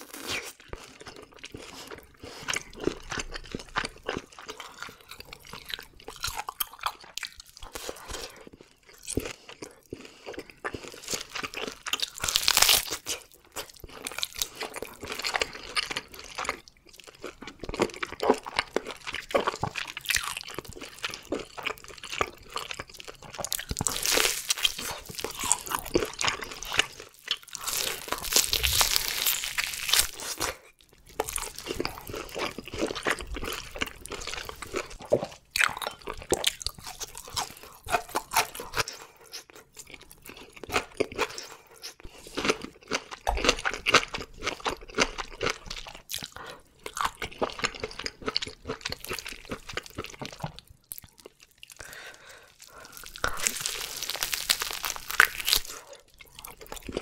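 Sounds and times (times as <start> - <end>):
chewing and biting steak: 0.0 - 57.0.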